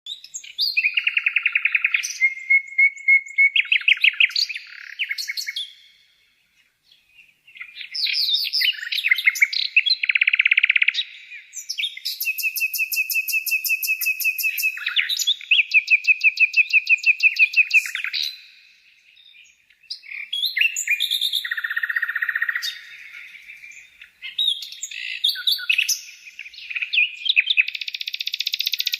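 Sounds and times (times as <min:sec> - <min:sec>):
songbirds singing: 0:00.1 - 0:28.9.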